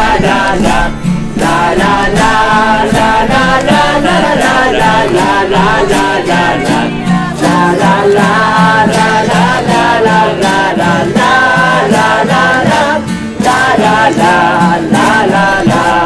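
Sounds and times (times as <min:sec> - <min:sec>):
group singing: 0:00.0 - 0:16.0
strummed acoustic guitar: 0:00.0 - 0:16.0.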